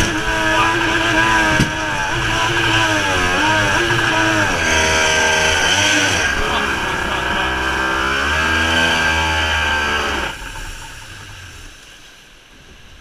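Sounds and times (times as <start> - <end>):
boat engine running hard: 0.0 - 12.2
rushing whitewater: 0.0 - 13.0.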